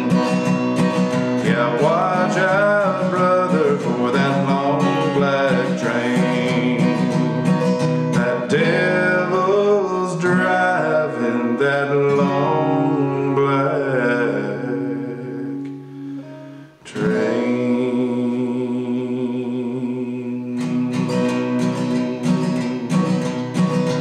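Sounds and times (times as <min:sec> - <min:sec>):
man singing: 0:00.0 - 0:15.8, 0:16.8 - 0:24.0
acoustic guitar strumming: 0:00.0 - 0:24.0.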